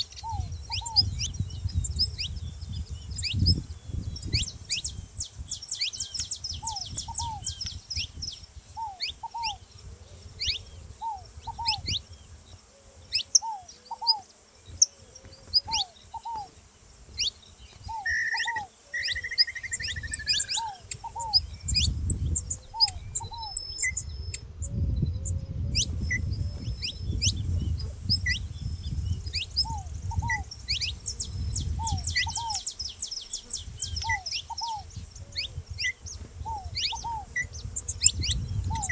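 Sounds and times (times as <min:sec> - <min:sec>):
dove calling in low notes: 0:00.0 - 0:38.9
finches chirping: 0:00.0 - 0:38.9.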